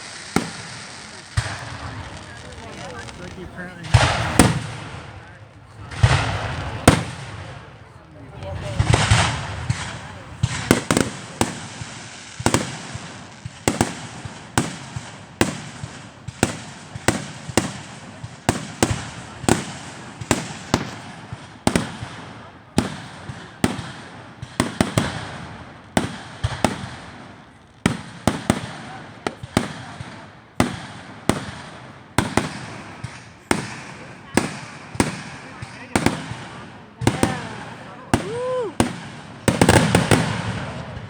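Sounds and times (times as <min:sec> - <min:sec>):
fireworks bangs echoing: 0:00.0 - 0:41.0.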